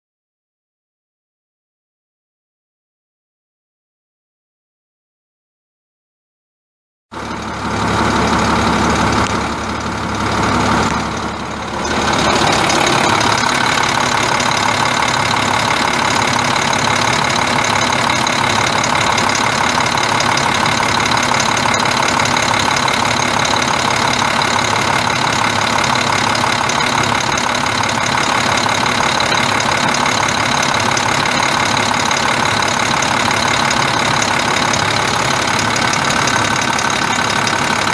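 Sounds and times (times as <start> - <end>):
diesel engine idling: 7.1 - 37.9.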